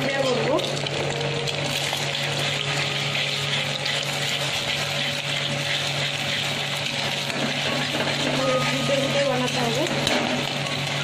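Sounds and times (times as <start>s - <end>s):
eggs sizzling in hot oil: 0.0s - 11.0s
metal spatula scrambling eggs: 0.0s - 11.0s.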